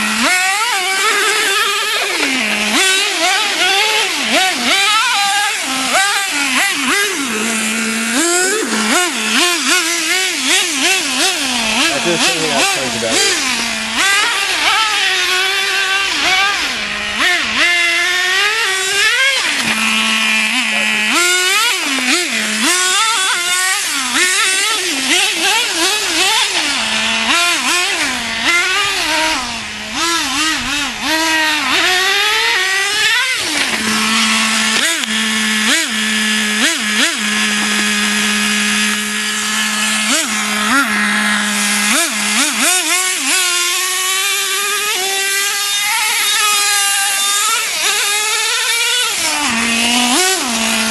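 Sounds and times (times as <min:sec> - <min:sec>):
small nitro engine revving: 0:00.0 - 0:50.9.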